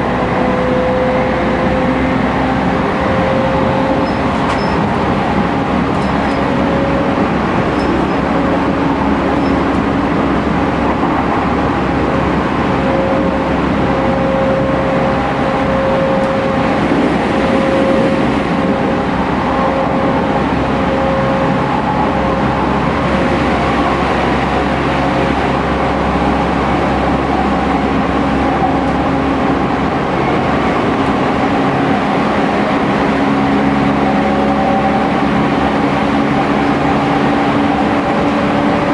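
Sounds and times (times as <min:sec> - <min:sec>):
electric train motor hum: 0:00.0 - 0:38.9
wheels rumbling on rail: 0:00.0 - 0:38.9.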